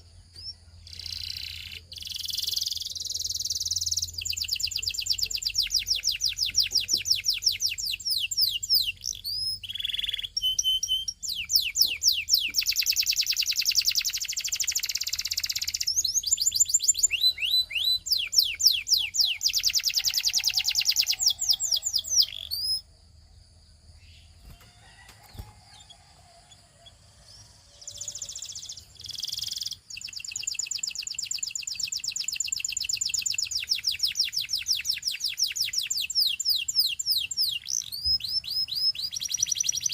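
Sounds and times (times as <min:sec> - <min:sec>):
canary trilling: 0:00.4 - 0:22.9, 0:24.4 - 0:39.9.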